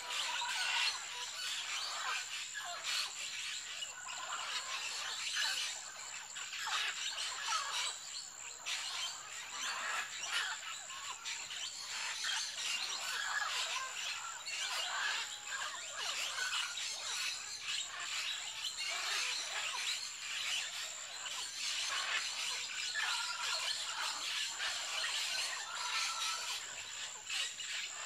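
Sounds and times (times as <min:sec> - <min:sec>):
parrots squawking and chattering: 0:00.0 - 0:28.0.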